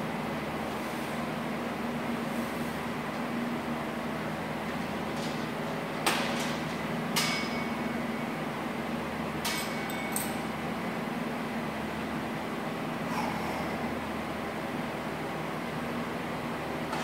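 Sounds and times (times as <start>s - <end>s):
ventilation fans humming: 0.0s - 17.0s.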